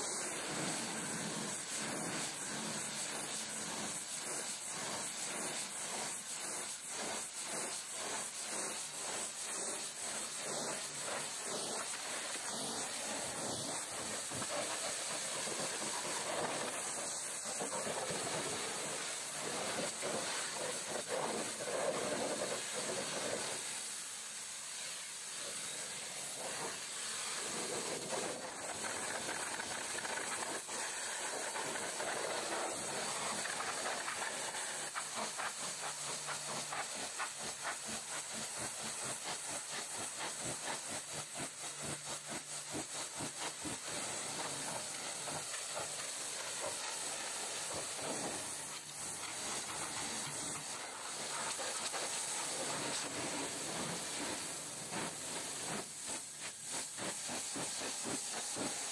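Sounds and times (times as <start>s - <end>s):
pressure washer spraying: 0.0s - 58.9s.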